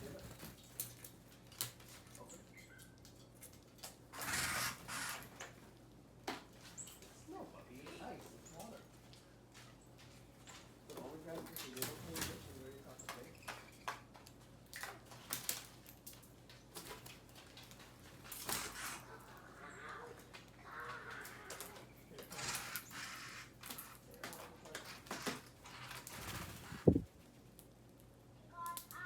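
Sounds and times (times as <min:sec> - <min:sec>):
beaks pecking at seed: 0:00.0 - 0:05.6, 0:10.0 - 0:29.0.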